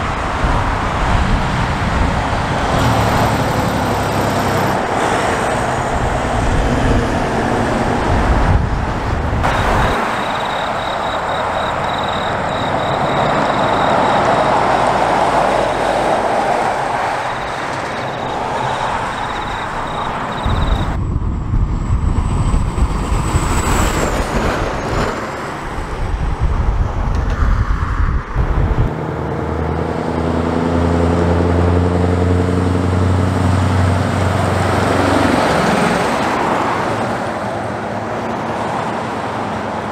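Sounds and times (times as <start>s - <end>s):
heavy diesel trucks driving past: 0.0s - 26.4s, 28.4s - 39.9s
tyre and road noise: 0.0s - 39.9s.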